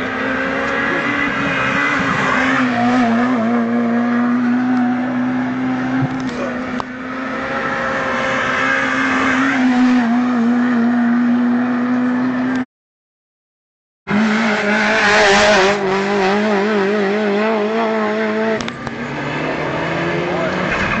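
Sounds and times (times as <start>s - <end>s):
race car engine at high revs: 0.0s - 12.6s, 14.1s - 21.0s.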